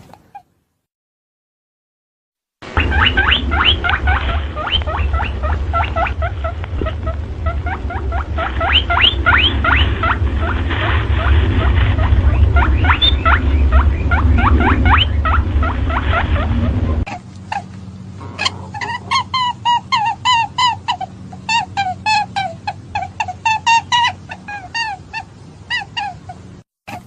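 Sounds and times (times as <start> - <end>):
rabbit squeaking: 0.0 - 0.6, 2.7 - 27.0
steady low hum: 2.6 - 27.0.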